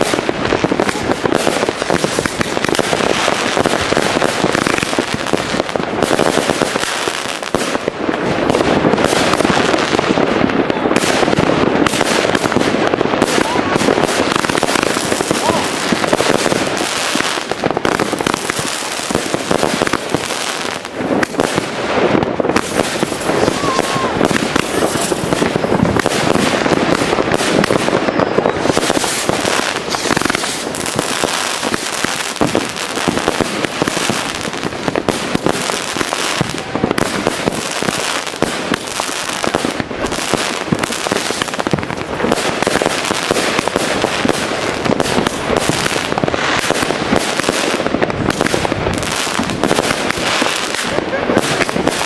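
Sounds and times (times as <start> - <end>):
rapid firework bangs: 0.0 - 52.0.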